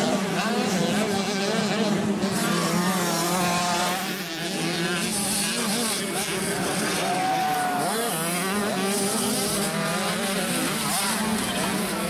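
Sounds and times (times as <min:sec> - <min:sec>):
motocross bikes buzzing at high revs: 0:00.0 - 0:12.0.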